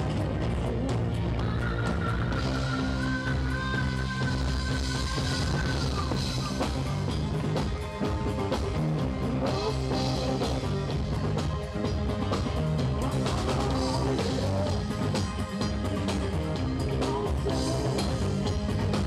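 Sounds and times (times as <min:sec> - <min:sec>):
live rock band: 0:00.0 - 0:19.0.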